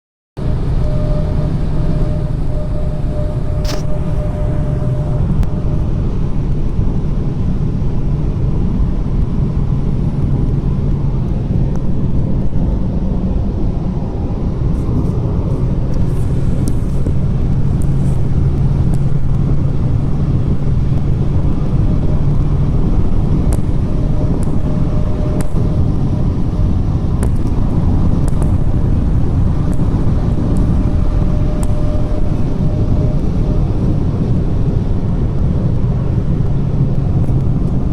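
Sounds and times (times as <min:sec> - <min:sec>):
humming drone of car: 0:00.4 - 0:37.9
road rumble: 0:00.4 - 0:37.9.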